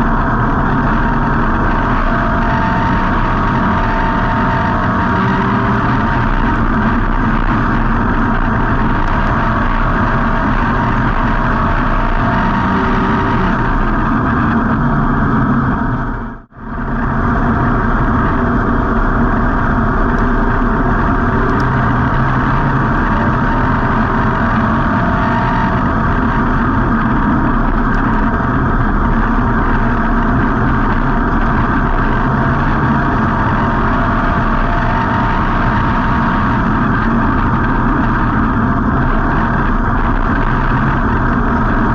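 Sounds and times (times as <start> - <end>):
race car engine running: 0.0 - 41.9.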